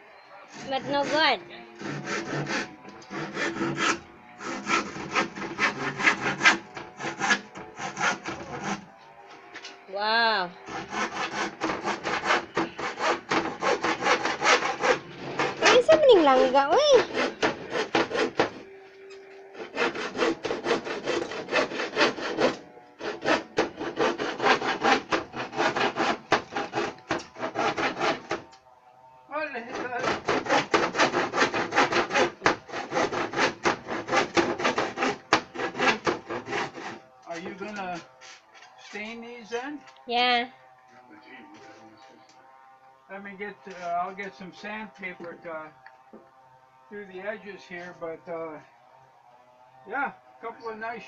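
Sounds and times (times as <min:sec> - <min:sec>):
hand saw cutting wood: 0:00.5 - 0:09.0, 0:10.5 - 0:28.6, 0:29.5 - 0:40.0, 0:43.0 - 0:48.1.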